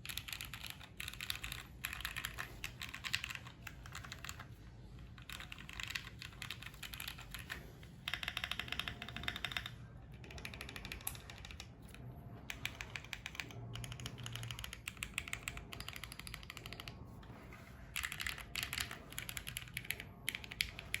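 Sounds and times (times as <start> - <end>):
fast typing on mechanical keyboard: 0.0 - 17.0, 17.8 - 21.0.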